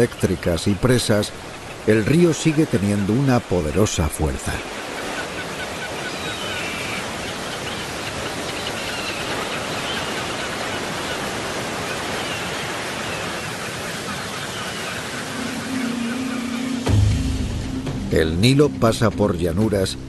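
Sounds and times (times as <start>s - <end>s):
river rapids rushing: 0.0s - 17.6s.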